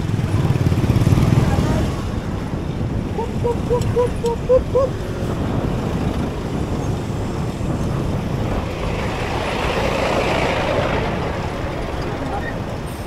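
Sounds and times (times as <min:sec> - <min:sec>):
road and wind noise: 0:00.0 - 0:13.0
traffic engines rumbling: 0:00.0 - 0:13.0.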